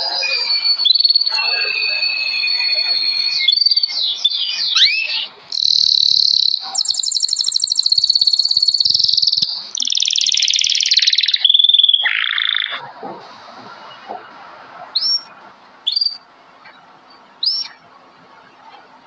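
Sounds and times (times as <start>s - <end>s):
songbirds singing: 0.0s - 12.9s, 15.0s - 19.0s.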